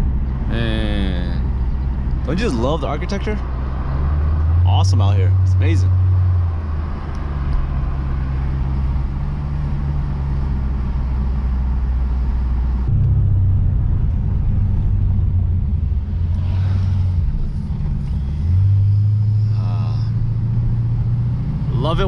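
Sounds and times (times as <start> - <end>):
car engine running while driving: 0.0 - 22.0
road noise: 0.0 - 22.0.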